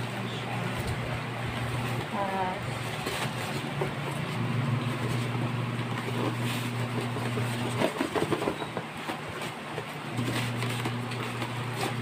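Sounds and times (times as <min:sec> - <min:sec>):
plastic and styrofoam rustling: 0:00.0 - 0:12.0.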